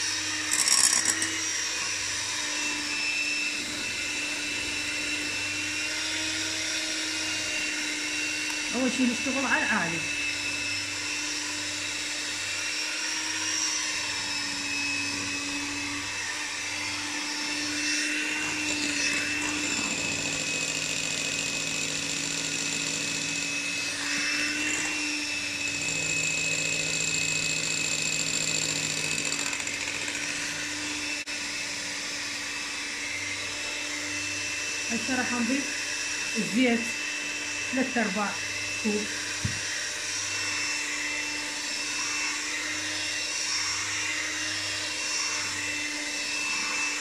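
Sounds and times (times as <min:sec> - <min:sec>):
electric mixer whining: 0:00.0 - 0:47.0.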